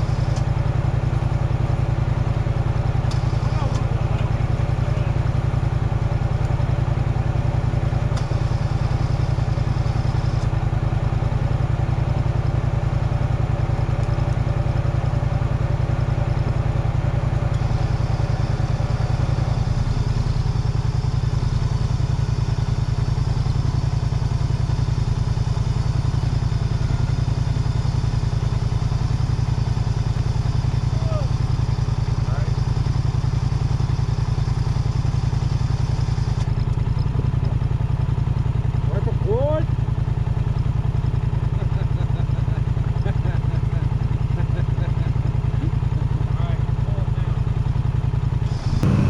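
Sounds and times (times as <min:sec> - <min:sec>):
off-road vehicle engine idling: 0:00.0 - 0:49.0.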